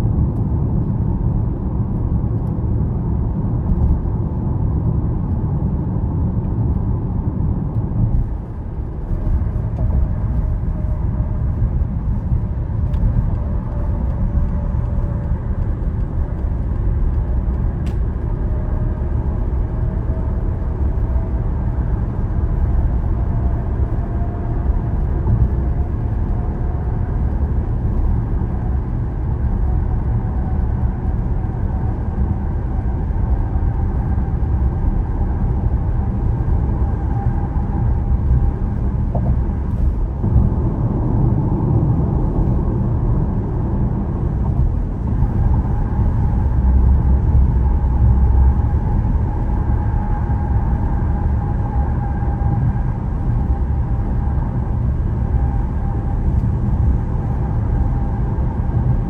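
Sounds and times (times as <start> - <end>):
vehicle road noise on highway: 0.0 - 59.0.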